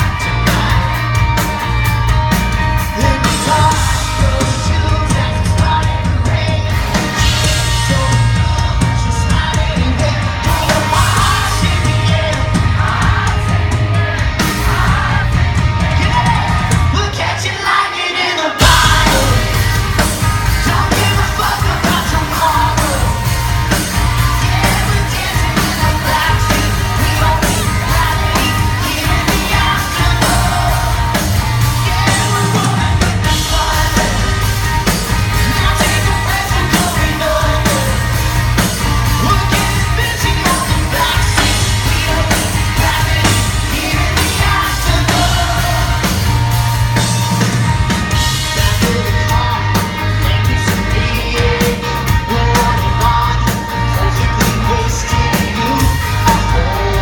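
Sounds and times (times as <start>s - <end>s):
crowd yelling: 0.0s - 57.0s
live pop-rock band playing: 0.0s - 57.0s
person singing: 2.8s - 47.5s, 48.1s - 57.0s.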